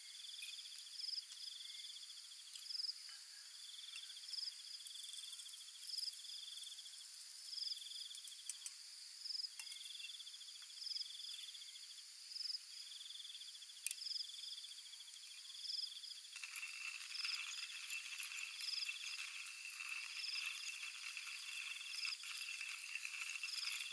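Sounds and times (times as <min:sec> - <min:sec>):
insect chirping: 0:00.0 - 0:23.9.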